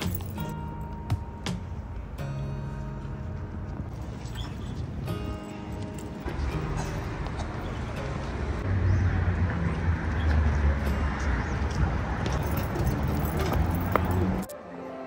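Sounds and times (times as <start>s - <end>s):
street traffic rumble: 0.0s - 14.5s.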